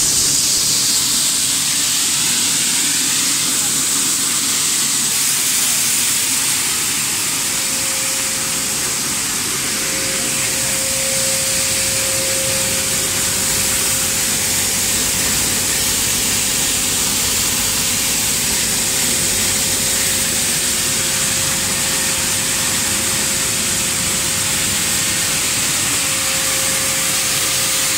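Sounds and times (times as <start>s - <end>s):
constant machine whine: 0.0s - 27.9s.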